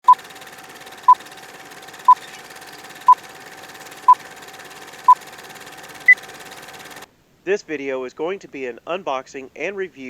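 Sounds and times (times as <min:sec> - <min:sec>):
constant hiss: 0:00.2 - 0:10.0.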